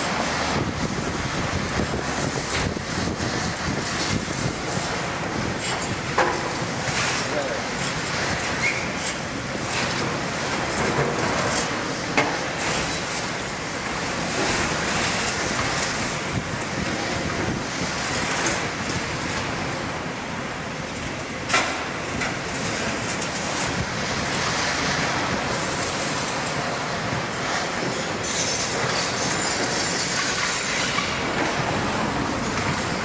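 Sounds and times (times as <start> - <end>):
excavator engines and hydraulics droning: 0.0 - 33.0.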